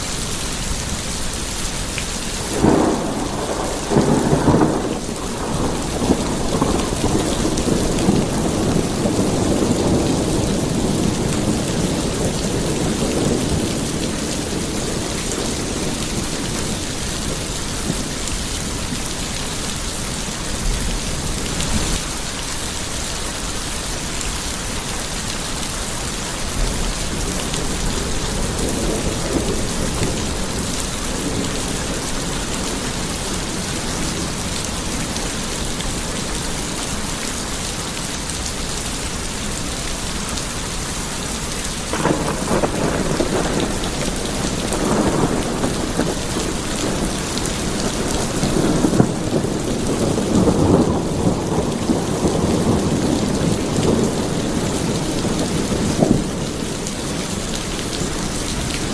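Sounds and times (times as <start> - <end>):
thunder rumbling: 0.0 - 22.4, 24.7 - 58.9
steady rain: 0.0 - 58.9.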